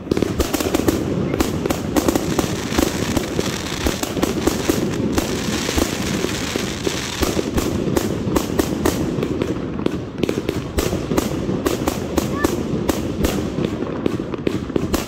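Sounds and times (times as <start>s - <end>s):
fireworks launching and bursting: 0.0s - 15.0s.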